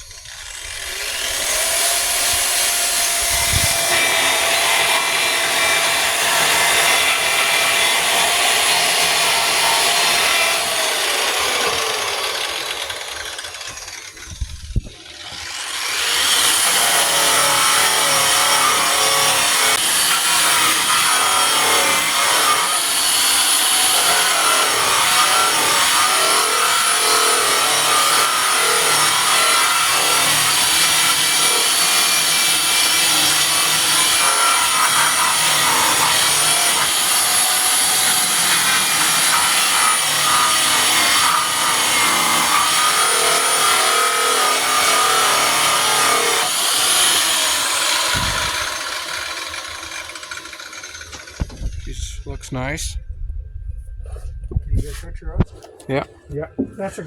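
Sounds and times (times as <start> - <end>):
electric sander whirring: 0.0 - 51.9.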